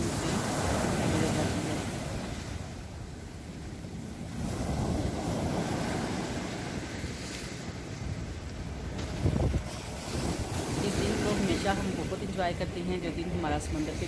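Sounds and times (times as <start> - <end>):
sea waves breaking on beach: 0.0 - 14.0
wind rumbling on microphone: 0.0 - 14.0.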